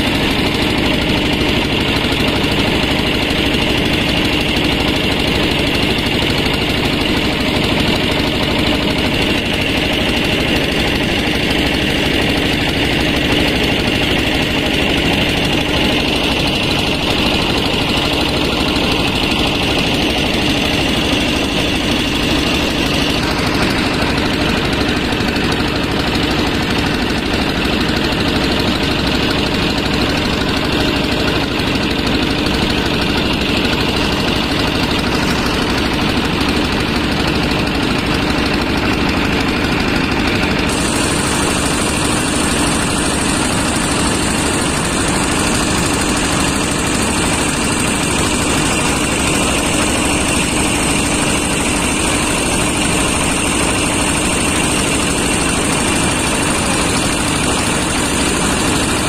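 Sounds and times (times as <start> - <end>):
motor boat engine humming: 0.0 - 59.0.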